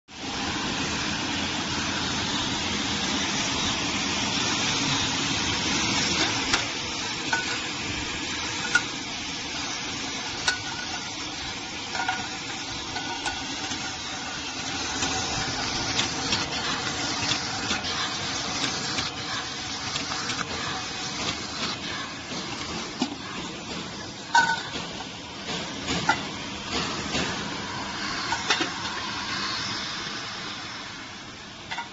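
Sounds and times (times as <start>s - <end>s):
labelling machine hissing: 0.1s - 31.9s.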